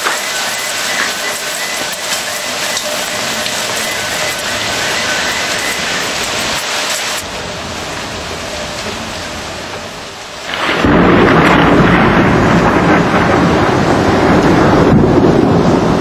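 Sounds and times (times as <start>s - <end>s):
heavy rain hissing: 0.0s - 16.0s
thunder rumbling: 0.0s - 16.0s.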